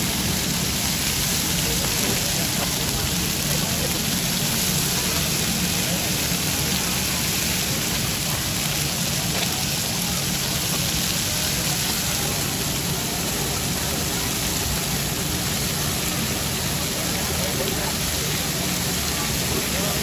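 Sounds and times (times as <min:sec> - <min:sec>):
meat sizzling on a griddle: 0:00.0 - 0:20.0.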